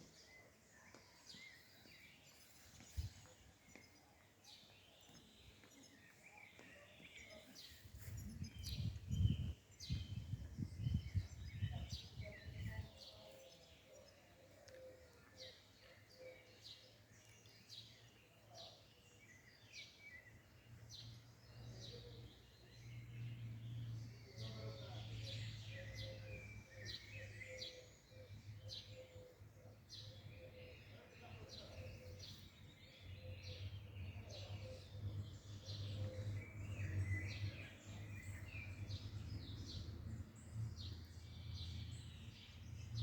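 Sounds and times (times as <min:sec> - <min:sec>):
songbirds chirping: 0:00.0 - 0:43.0.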